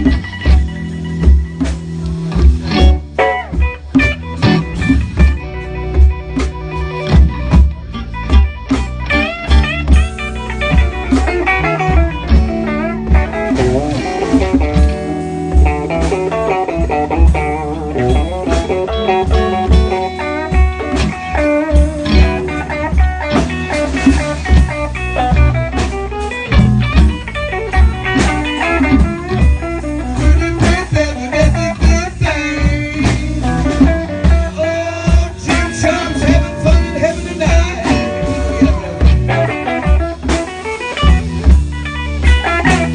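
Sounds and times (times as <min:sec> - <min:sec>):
electric guitar: 0:00.0 - 0:42.9
live blues band playing: 0:00.0 - 0:42.9.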